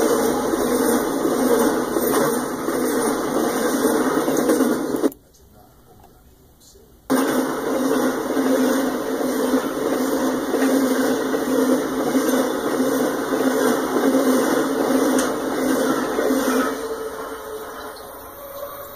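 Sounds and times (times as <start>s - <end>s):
train wheels rumbling on rail: 0.0s - 5.1s, 7.1s - 18.9s.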